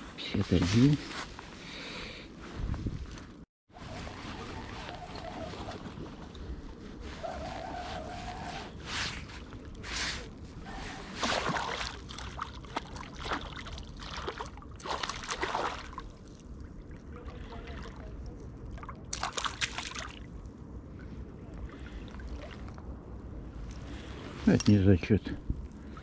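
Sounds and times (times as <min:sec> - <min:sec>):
water splashing and sloshing: 0:02.4 - 0:26.0.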